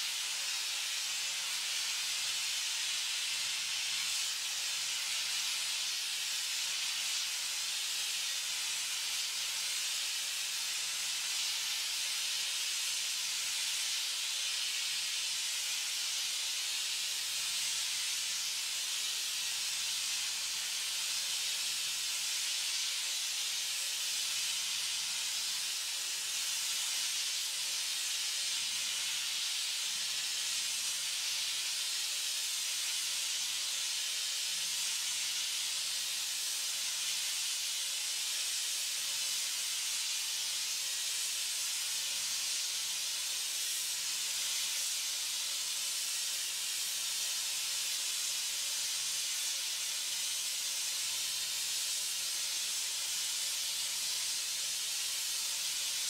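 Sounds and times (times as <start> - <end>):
blowtorch hissing: 0.0 - 56.0.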